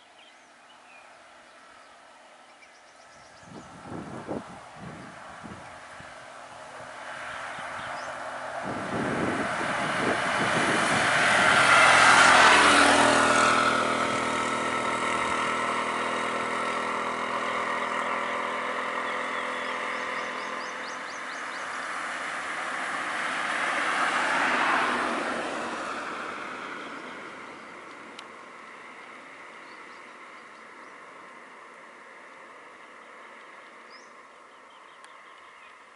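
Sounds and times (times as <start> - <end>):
auto-rickshaw driving past: 0.0 - 35.9
car passing: 0.0 - 35.9.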